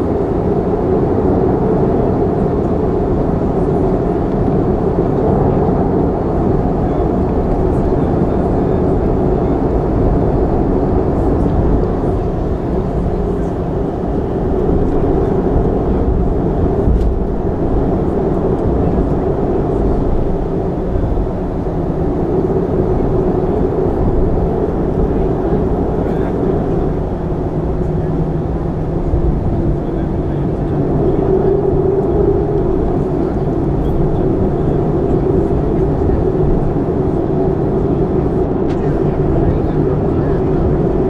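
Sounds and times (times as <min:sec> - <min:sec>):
airplane cabin rumble: 0:00.0 - 0:41.0.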